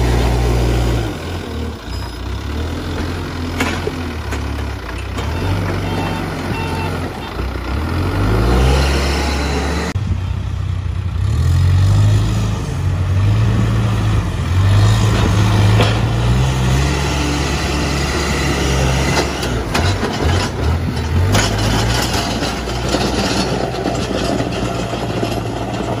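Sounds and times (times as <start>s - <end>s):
diesel engine revving: 0.0s - 26.0s.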